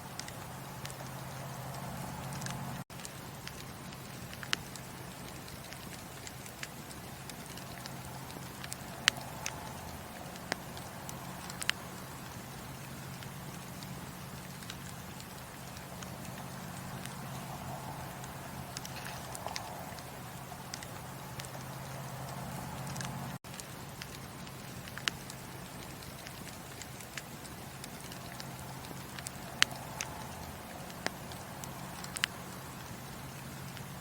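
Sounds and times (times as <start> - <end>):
fireplace wood crackling: 0.0 - 34.0.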